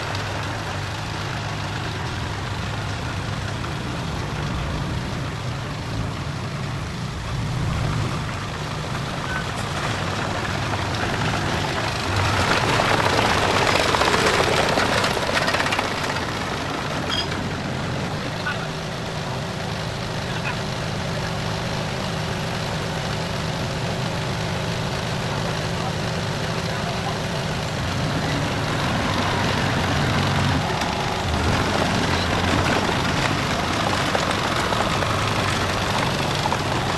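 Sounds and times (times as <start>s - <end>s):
heavy vehicle engine rumbling: 0.0s - 36.9s.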